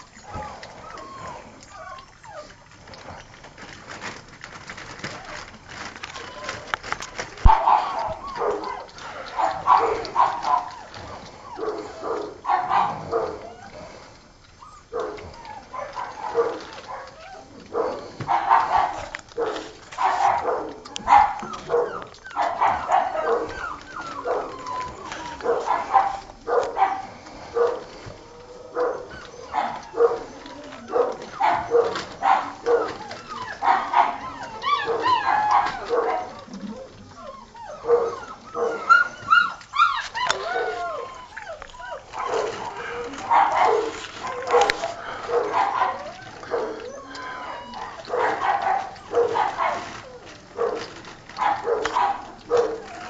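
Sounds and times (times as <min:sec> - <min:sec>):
puppies yipping and whining: 0:00.0 - 0:53.0.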